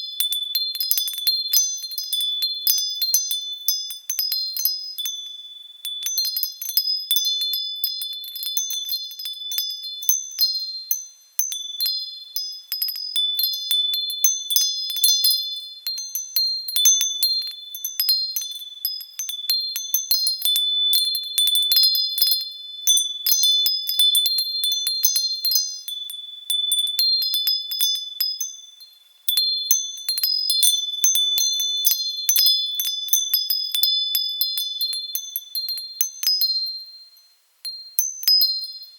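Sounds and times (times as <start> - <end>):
wind chimes tinkling: 0.0 - 38.9.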